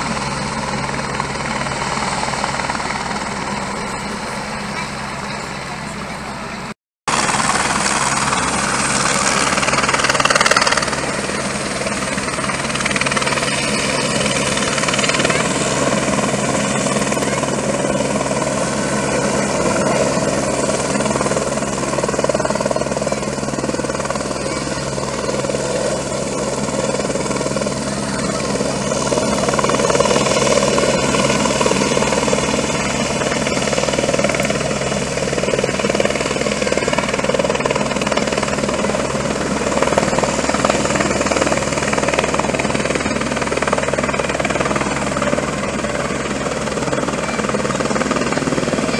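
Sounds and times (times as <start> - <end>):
helicopter hovering: 0.0 - 48.9.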